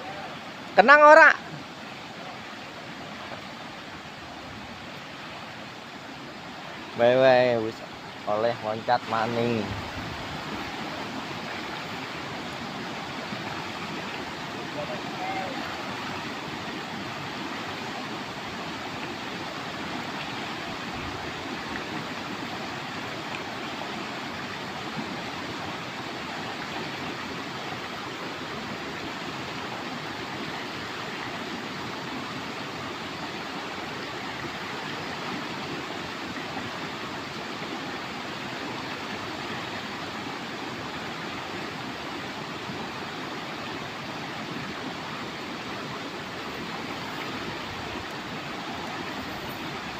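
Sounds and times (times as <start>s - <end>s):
fast-flowing river rushing: 0.0s - 49.9s.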